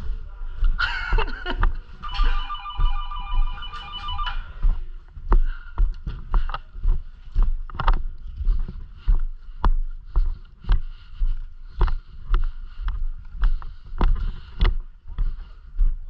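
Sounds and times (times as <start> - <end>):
footsteps walking: 0.0 - 16.0.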